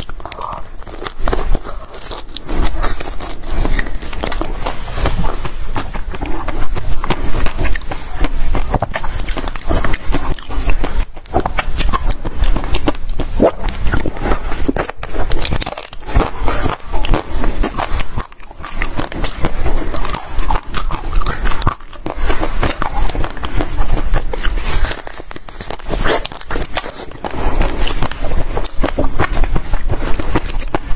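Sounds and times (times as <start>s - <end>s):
biting and crunching ice: 0.0s - 30.9s.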